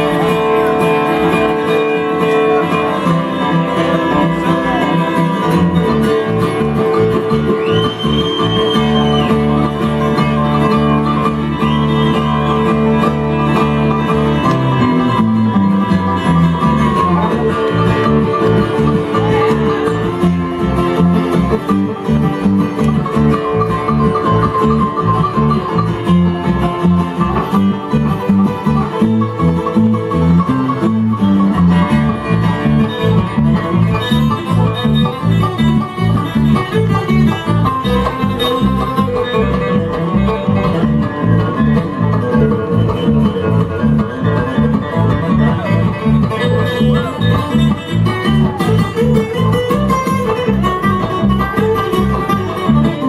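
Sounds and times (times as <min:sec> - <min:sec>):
bluegrass band playing: 0:00.0 - 0:53.0.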